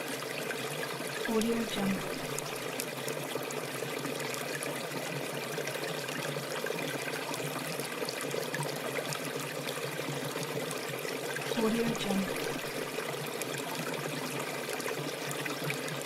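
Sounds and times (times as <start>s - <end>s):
stream trickling over stones: 0.0s - 1.4s, 2.0s - 16.0s.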